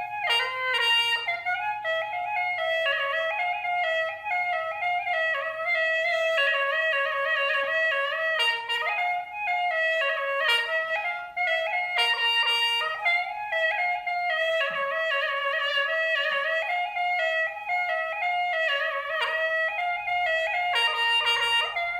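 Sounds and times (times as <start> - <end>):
reedy wind instrument melody: 0.0 - 21.9.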